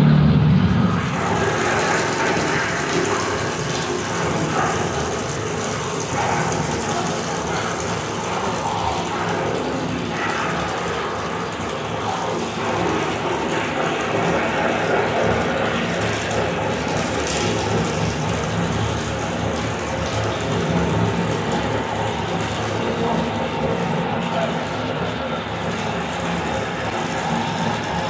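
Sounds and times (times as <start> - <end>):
rough mechanical drone: 0.0 - 28.0
water spraying inside drain pipe: 0.6 - 28.0.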